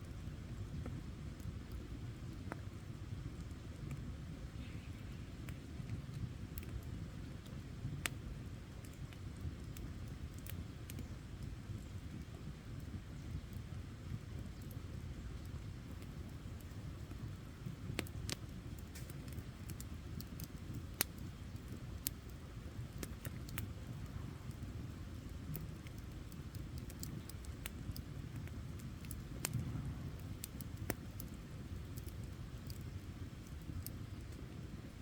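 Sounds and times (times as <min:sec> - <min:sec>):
campfire popping and crackling: 0:00.0 - 0:35.0
fire low rumble: 0:00.0 - 0:35.0.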